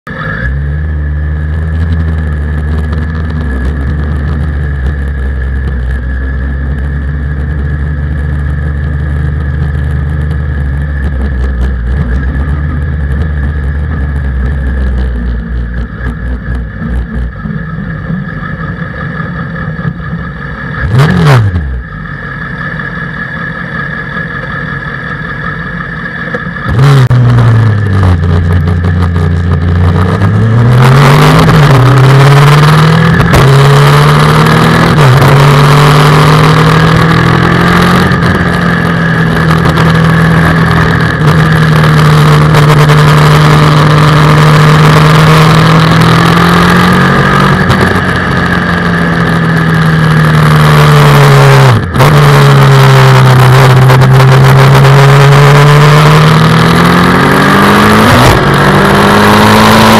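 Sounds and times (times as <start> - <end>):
race car engine running: 0.0 - 59.9.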